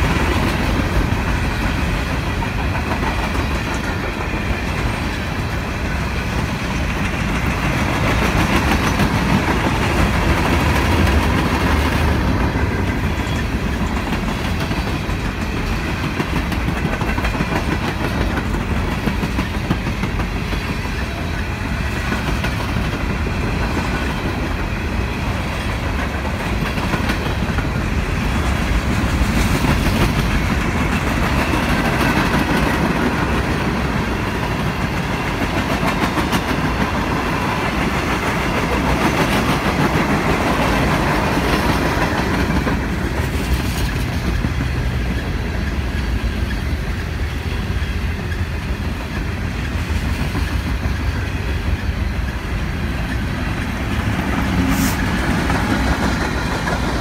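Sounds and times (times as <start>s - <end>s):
steel train wheels on rails: 0.0s - 57.0s.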